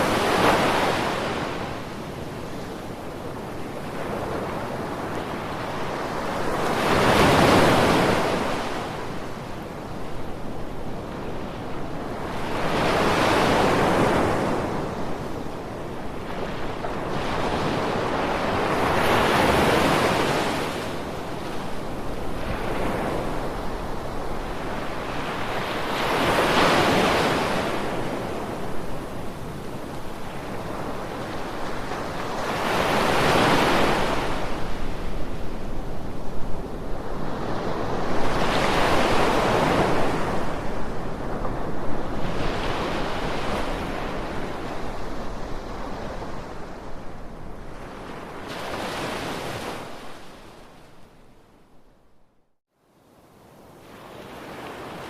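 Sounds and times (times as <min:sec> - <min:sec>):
ocean waves breaking on shore: 0:00.0 - 0:51.5, 0:53.2 - 0:55.0.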